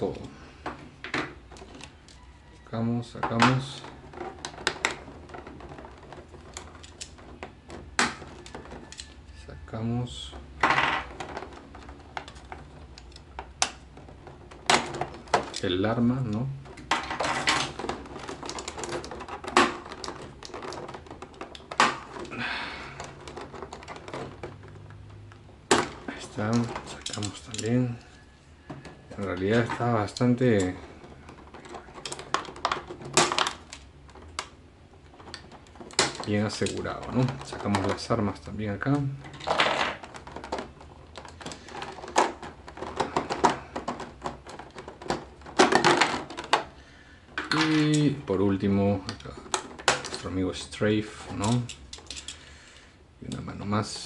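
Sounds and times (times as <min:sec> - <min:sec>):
plastic packaging tray crackling: 0:00.0 - 0:10.4, 0:11.0 - 0:54.0.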